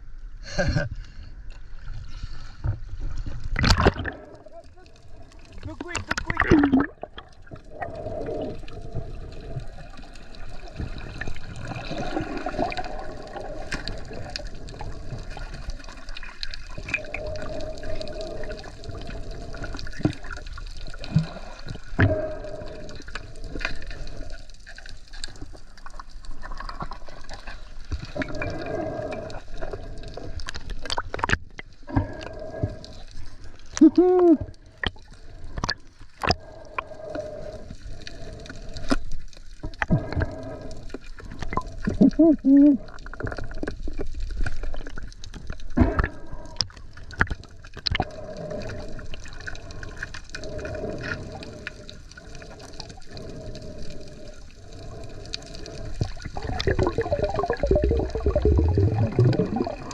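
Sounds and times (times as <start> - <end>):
underwater rushing and bubbling: 0.0 - 59.9.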